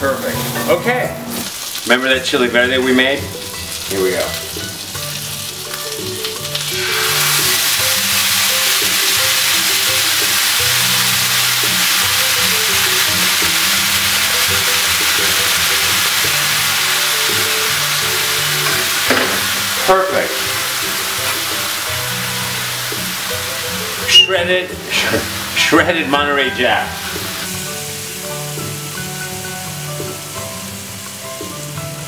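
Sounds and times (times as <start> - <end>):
sauce sizzling in a skillet: 0.0 - 32.0.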